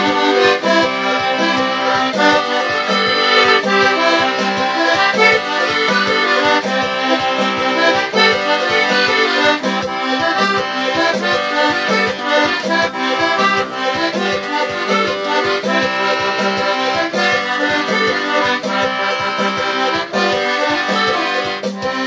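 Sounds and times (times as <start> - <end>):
button accordion playing: 0.0 - 22.0.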